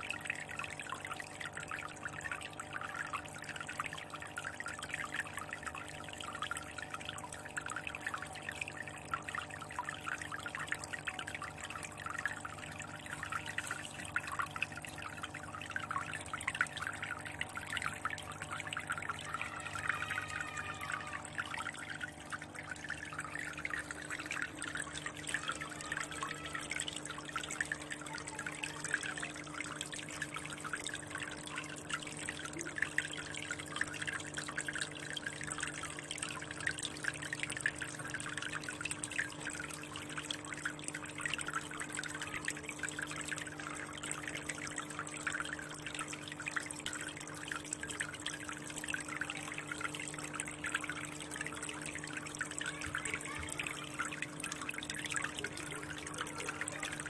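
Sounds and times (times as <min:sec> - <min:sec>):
water trickling into fish tank: 0:00.0 - 0:57.0.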